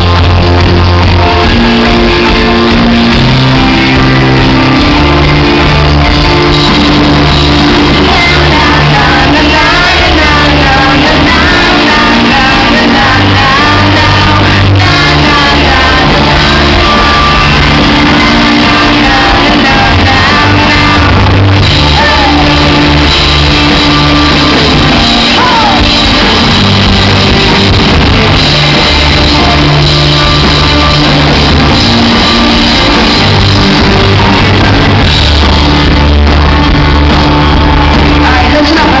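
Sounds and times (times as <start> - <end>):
drums: 0.0 - 39.0
electric bass: 0.0 - 39.0
keyboard: 0.0 - 39.0.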